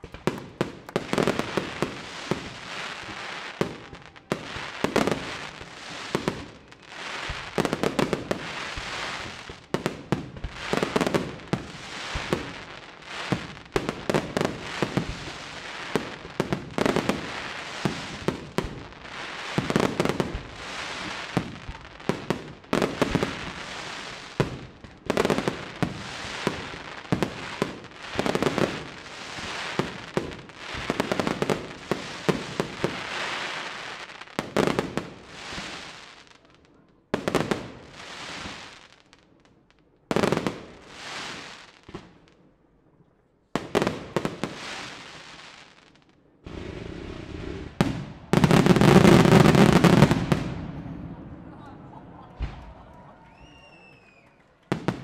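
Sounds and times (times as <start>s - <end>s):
fireworks bursting: 0.0s - 36.4s, 37.2s - 39.2s, 43.6s - 55.0s.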